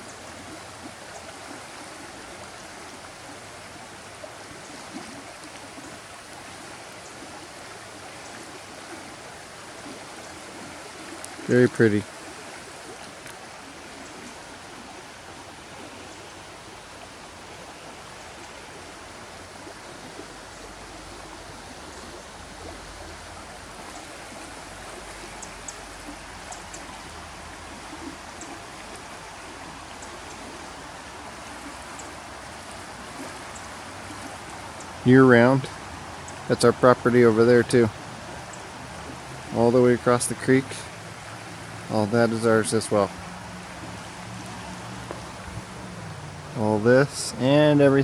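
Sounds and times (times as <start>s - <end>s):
creek water rushing over rocks: 0.0s - 48.0s.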